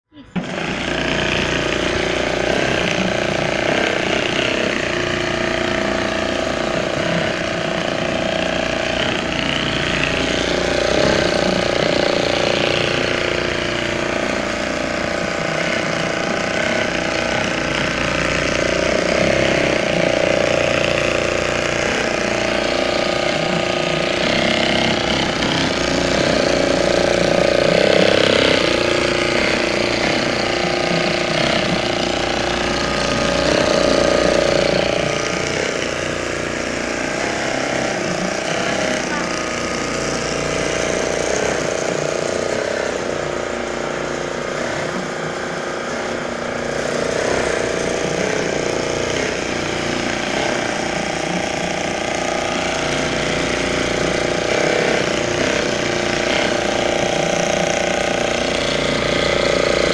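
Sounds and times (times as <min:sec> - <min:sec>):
sewing machine stitching: 0:00.0 - 0:59.9.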